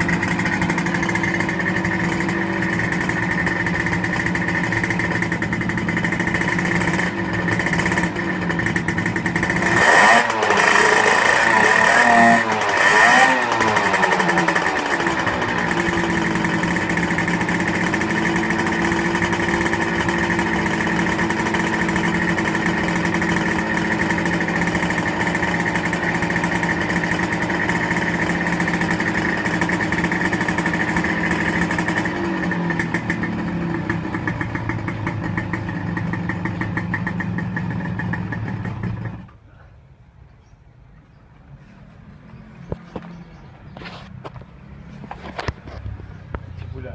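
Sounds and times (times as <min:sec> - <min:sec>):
engine throttle blips: 0:00.0 - 0:39.6
engine idling: 0:00.0 - 0:39.7.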